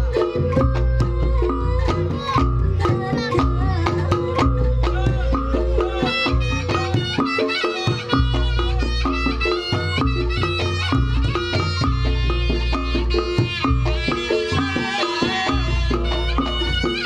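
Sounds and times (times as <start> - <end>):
drums: 0.0 - 17.0
reedy wind instrument melody: 0.0 - 17.0.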